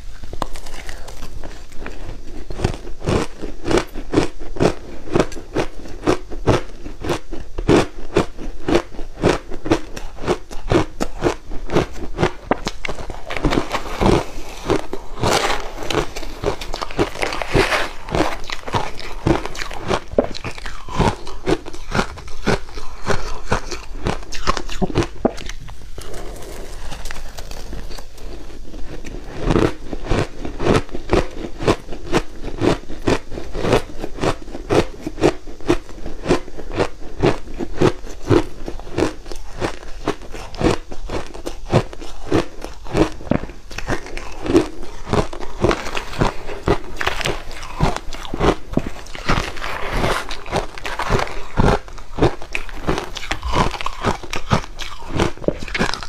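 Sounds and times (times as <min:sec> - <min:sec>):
chewing crushed ice: 0:00.1 - 0:56.0.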